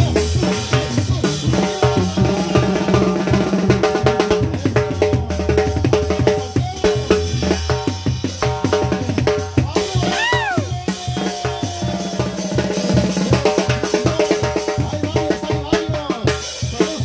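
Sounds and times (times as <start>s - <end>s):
drum kit and timbales beat: 0.0s - 17.0s.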